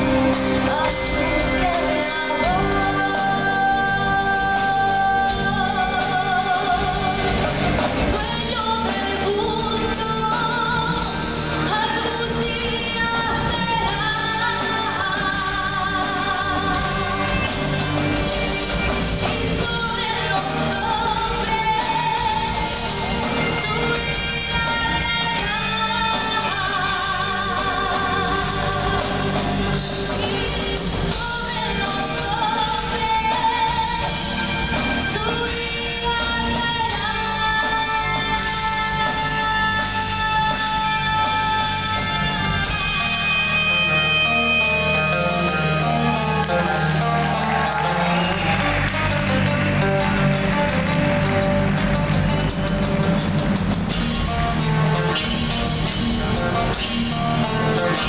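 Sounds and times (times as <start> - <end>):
person singing with vibrato: 0.0 - 49.1
rock band playing: 0.0 - 58.0.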